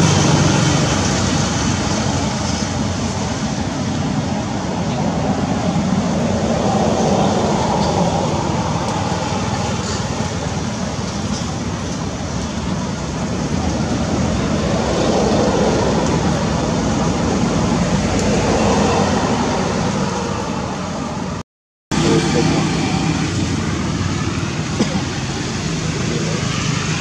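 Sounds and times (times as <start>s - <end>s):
loud rumbling background noise: 0.0s - 27.0s.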